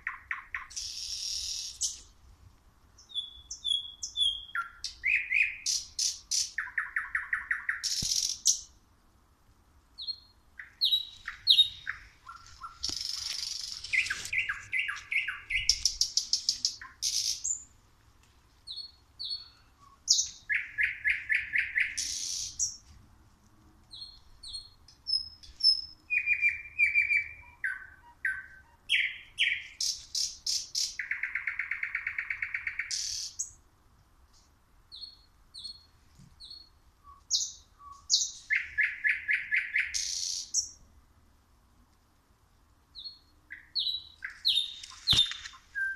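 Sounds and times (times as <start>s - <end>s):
nightingale singing: 0.0s - 2.2s, 3.0s - 8.8s, 10.0s - 17.8s, 18.6s - 22.9s, 23.8s - 33.6s, 34.9s - 40.9s, 42.9s - 45.9s.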